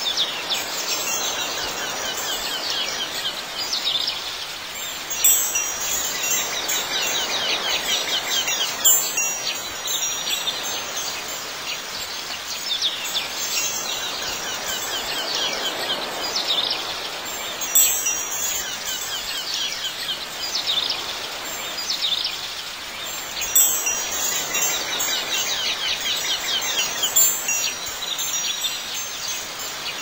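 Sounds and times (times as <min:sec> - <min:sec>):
birds chirping and singing: 0:00.0 - 0:30.0
wind chimes ringing: 0:00.0 - 0:30.0.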